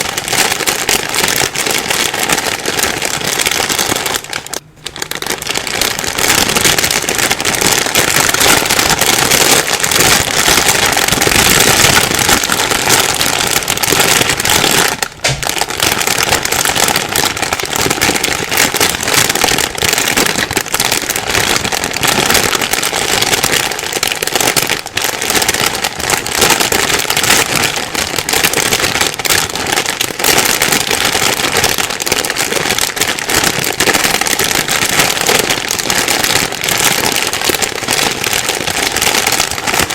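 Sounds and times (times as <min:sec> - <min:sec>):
plastic bag rustling: 0:00.0 - 0:39.9.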